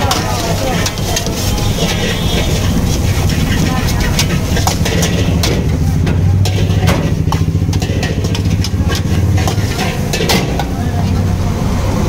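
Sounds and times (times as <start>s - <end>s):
ladle scraping iron wok: 0.0s - 11.4s
low rumble: 1.6s - 11.6s.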